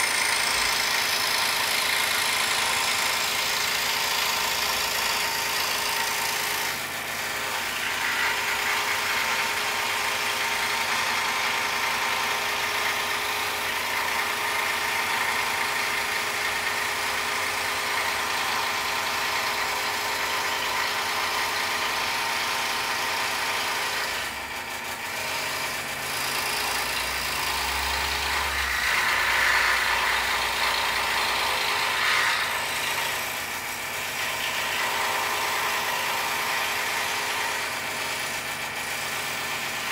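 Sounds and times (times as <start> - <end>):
scroll saw cutting wood: 0.0 - 39.9.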